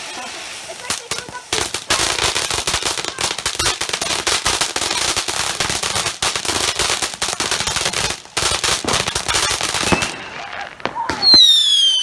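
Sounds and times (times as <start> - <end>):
firework crackling bangs: 0.0 - 12.0.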